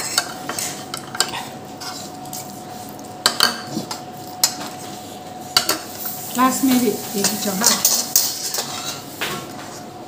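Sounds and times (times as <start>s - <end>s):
cutlery clinking and scraping bowls: 0.0s - 9.8s.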